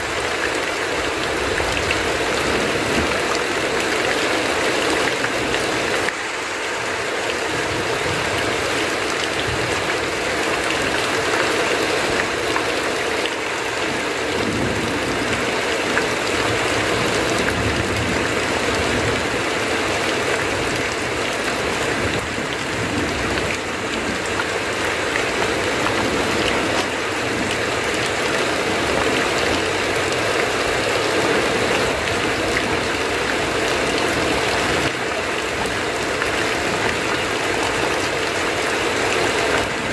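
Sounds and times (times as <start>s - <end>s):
heavy rain on a roof: 0.0s - 39.9s
water pouring off eaves: 0.0s - 39.9s.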